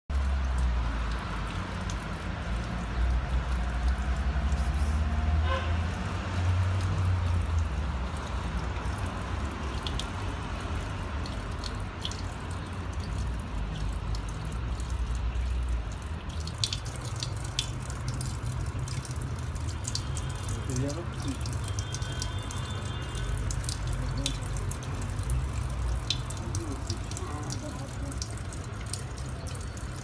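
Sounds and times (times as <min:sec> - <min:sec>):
tap water splashing on stone: 0:00.1 - 0:30.0
water dripping: 0:00.1 - 0:30.0.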